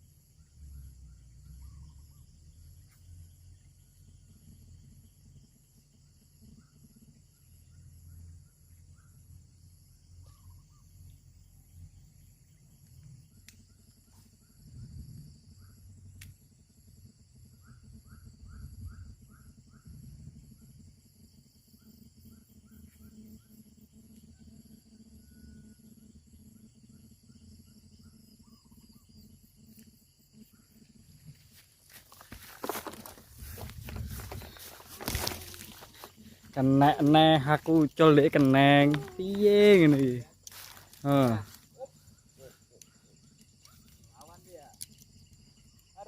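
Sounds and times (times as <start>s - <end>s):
insects droning: 0.0s - 46.0s.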